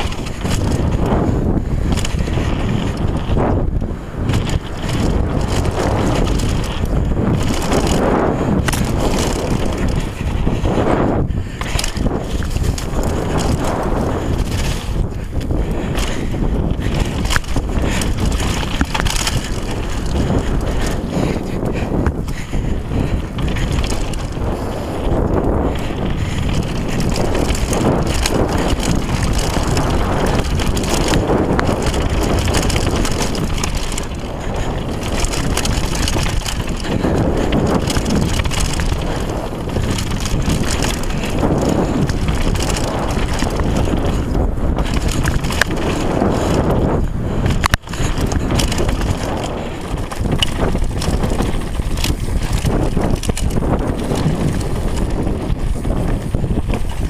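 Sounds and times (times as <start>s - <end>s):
bike rattling: 0.0s - 57.0s
tyres rolling on dirt and stones: 0.0s - 57.0s
wind buffeting microphone: 0.0s - 57.0s.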